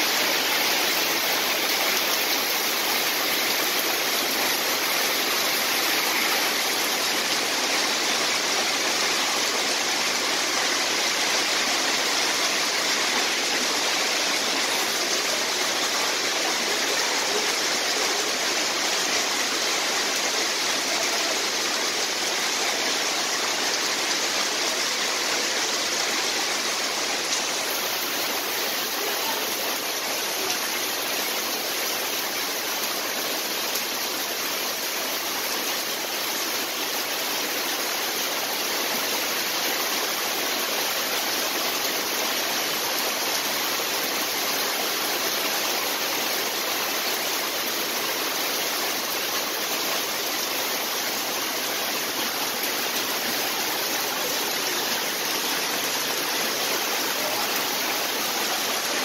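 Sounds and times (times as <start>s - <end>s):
heavy rain on pool water: 0.0s - 59.0s.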